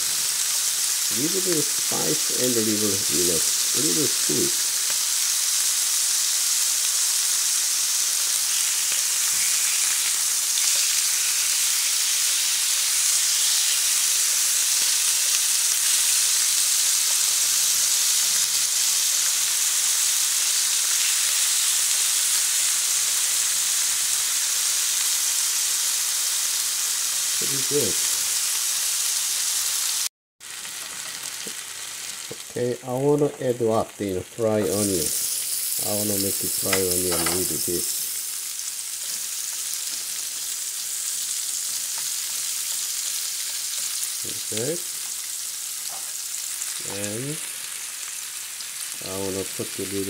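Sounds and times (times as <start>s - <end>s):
chicken sizzling in oil: 0.0s - 50.0s.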